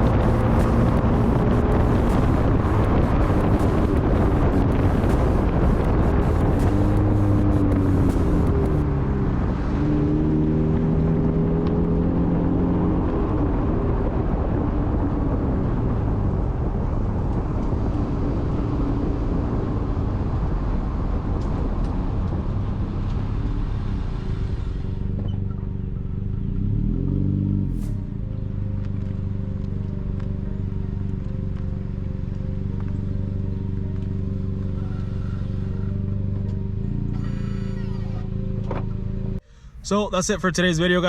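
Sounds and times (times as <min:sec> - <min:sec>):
car engine: 0:00.0 - 0:41.0
road and tyre noise: 0:00.0 - 0:41.0.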